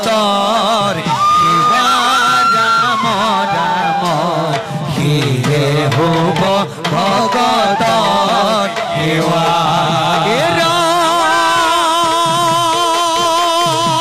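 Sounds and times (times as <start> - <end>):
person singing a devotional chant: 0.0 - 14.0.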